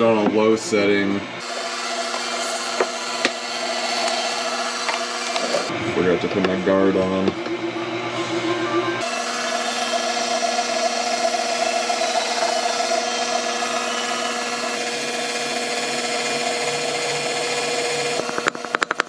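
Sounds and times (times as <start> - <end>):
stand mixer motor whining: 1.3 - 19.0.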